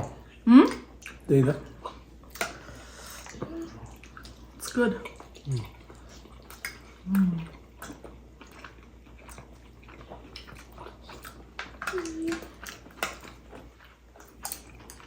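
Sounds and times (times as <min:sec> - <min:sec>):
soft chewing: 0:00.0 - 0:15.0.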